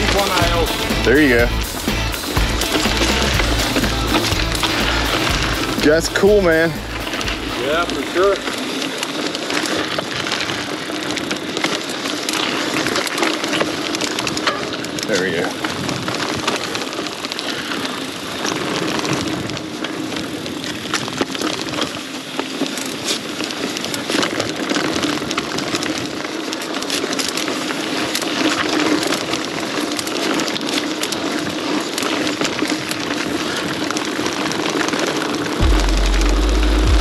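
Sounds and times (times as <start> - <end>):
small clicks and crackles: 0.0 - 36.0
bike tyres crunching over dirt: 0.0 - 37.0.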